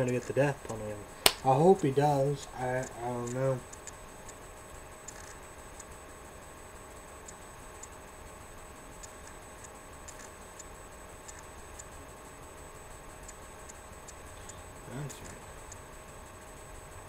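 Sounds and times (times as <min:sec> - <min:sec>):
faint electronic whine and hum: 0:00.0 - 0:17.0.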